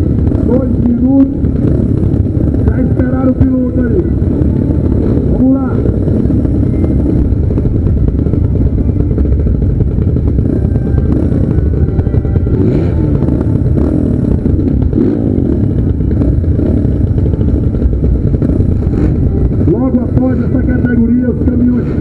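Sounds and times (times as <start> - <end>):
motocross motorcycles revving: 0.0 - 22.0.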